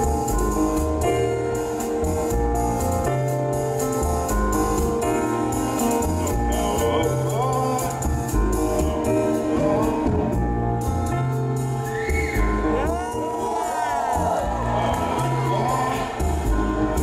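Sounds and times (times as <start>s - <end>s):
double bass line: 0.0s - 13.2s, 14.2s - 17.0s
piano chords: 0.0s - 17.0s.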